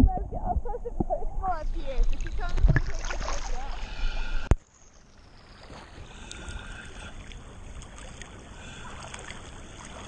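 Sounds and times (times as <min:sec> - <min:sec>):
muffled water lapping and gurgling: 0:00.0 - 0:10.0.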